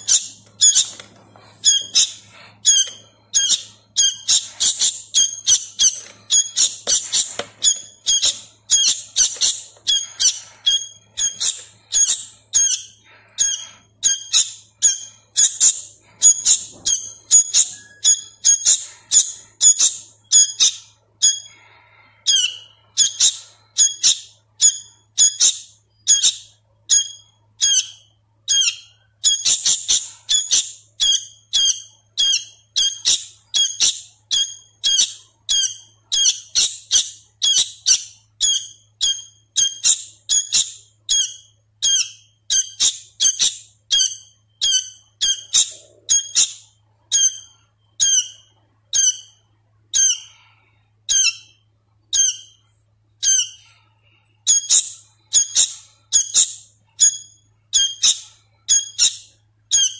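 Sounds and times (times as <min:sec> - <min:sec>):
young bird squeaky chirps: 0:00.0 - 0:21.5, 0:22.3 - 0:50.4, 0:51.1 - 0:52.6, 0:53.2 - 0:53.7, 0:54.4 - 0:59.9.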